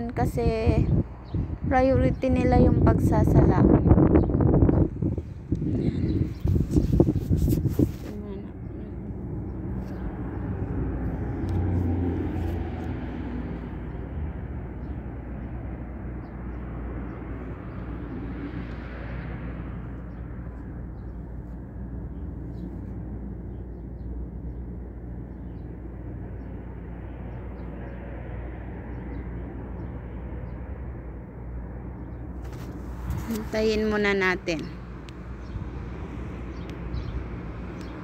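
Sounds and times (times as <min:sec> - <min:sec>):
muffled road traffic rumble: 0:00.0 - 0:38.0
vehicle passing: 0:04.8 - 0:38.0.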